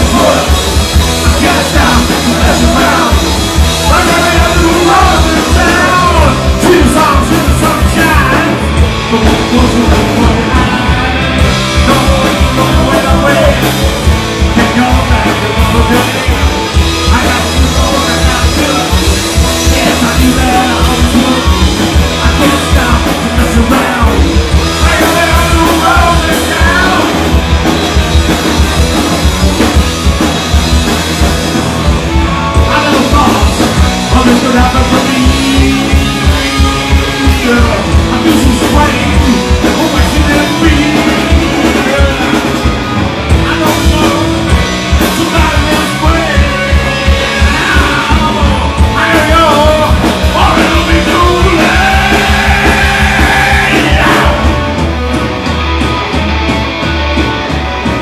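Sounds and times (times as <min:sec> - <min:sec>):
person singing: 0:00.0 - 0:27.5, 0:32.6 - 0:42.7, 0:43.3 - 0:54.7
punk rock band playing: 0:00.0 - 0:58.0.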